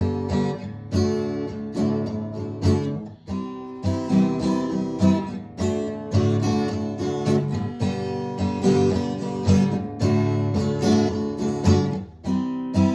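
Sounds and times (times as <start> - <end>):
acoustic guitar strumming: 0.0 - 12.9.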